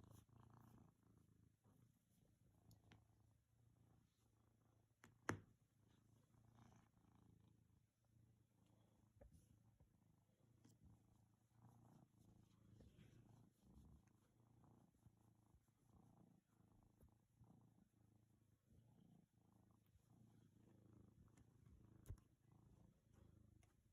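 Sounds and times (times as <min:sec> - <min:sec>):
cat purring: 0:00.0 - 0:23.9.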